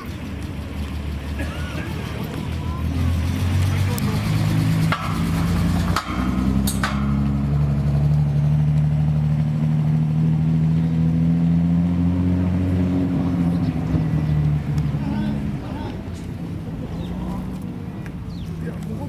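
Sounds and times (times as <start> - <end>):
car engine running loud: 0.0 - 19.0.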